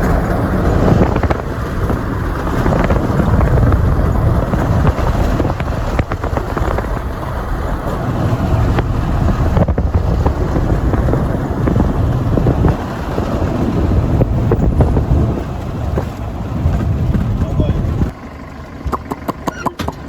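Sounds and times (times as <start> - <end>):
road vehicle rumble: 0.0 - 20.0
wind buffeting microphone: 0.0 - 20.0.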